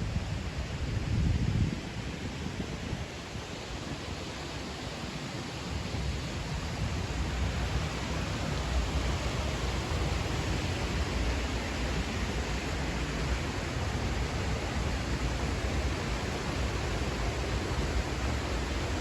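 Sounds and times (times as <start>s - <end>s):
stream rushing: 0.0s - 19.0s.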